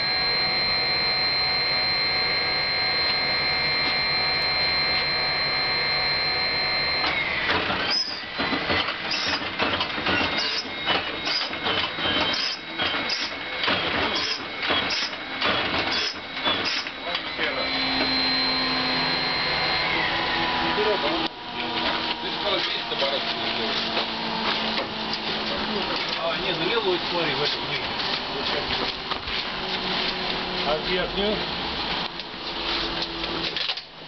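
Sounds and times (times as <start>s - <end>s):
starter motor whine: 0.0s - 33.8s.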